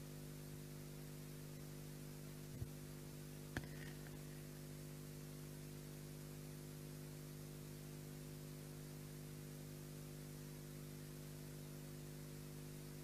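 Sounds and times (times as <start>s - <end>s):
faint mains hum and hiss: 0.0s - 13.0s.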